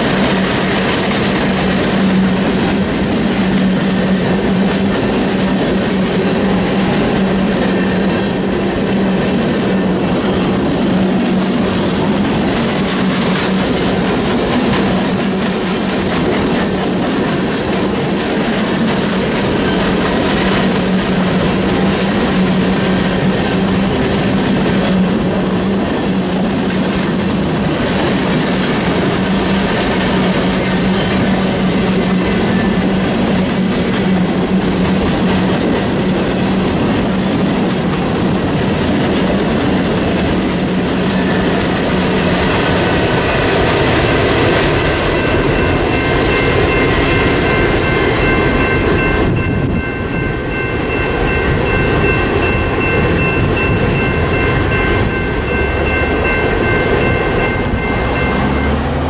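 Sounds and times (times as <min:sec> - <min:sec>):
wheels clicking over rail joints: 0:00.0 - 0:50.6
train wheels rumbling and rattling: 0:00.0 - 0:59.0.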